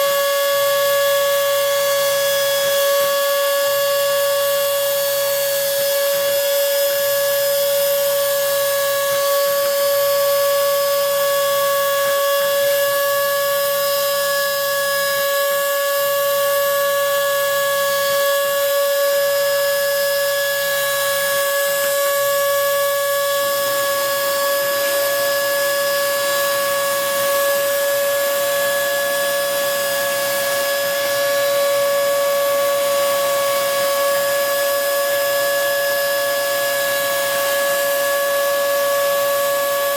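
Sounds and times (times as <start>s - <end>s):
router spindle motor whining: 0.0s - 39.9s.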